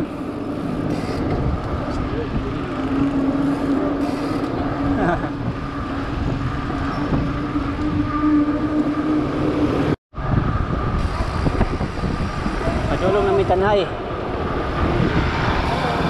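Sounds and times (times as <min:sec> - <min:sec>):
bicycle tyres rolling on asphalt: 0:00.0 - 0:16.0
wind on microphone: 0:00.9 - 0:16.0.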